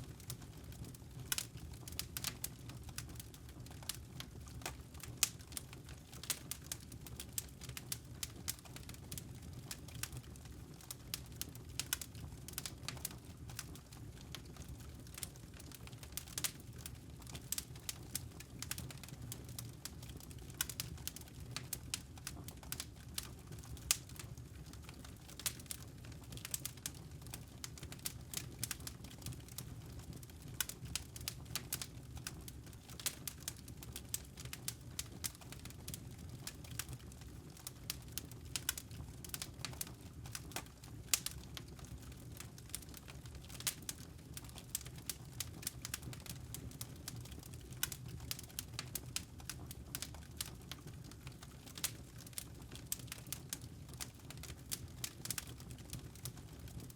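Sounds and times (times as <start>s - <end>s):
low rumble of flames: 0.0s - 56.9s
campfire crackling: 0.1s - 56.9s.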